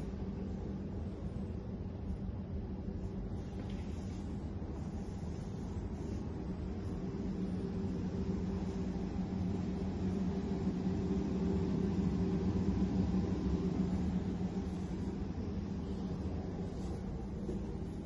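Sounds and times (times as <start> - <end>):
air-conditioning hum: 0.0 - 18.0.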